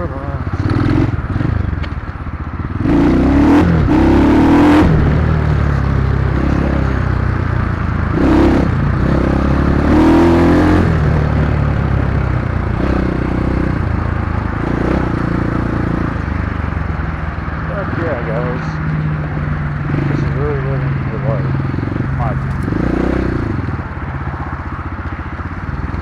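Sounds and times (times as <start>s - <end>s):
dirt bike engine revving: 0.0s - 24.5s.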